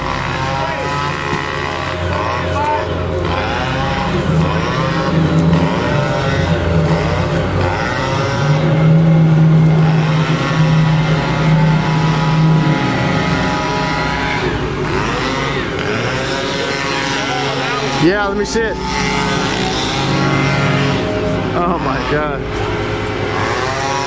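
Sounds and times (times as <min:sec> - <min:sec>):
chainsaw at full throttle: 0:00.0 - 0:24.0.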